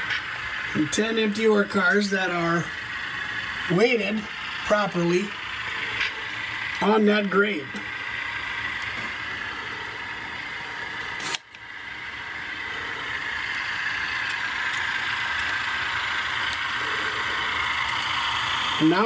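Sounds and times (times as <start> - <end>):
model locomotives running: 0.0 - 19.0.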